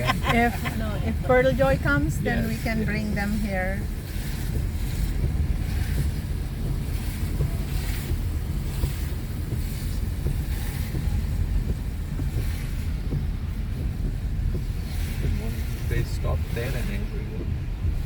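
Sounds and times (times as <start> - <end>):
faint hiss: 0.0 - 17.5
car road and engine rumble: 0.0 - 18.0.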